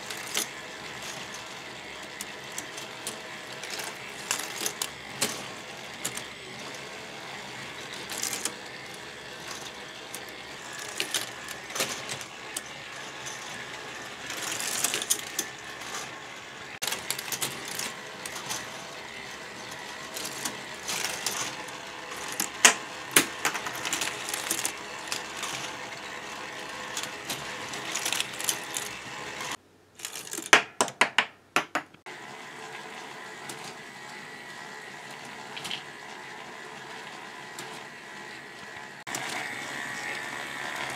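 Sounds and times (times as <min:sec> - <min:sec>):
whirr of gears: 0:00.0 - 0:30.5, 0:32.1 - 0:40.9
plastic parts clicking and clattering: 0:00.0 - 0:32.0, 0:35.1 - 0:36.2.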